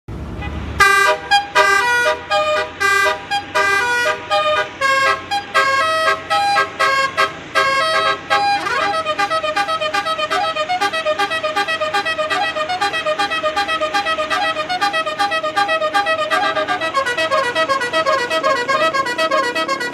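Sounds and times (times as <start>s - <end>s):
multi-tone bus air horn tune: 0.3s - 19.9s.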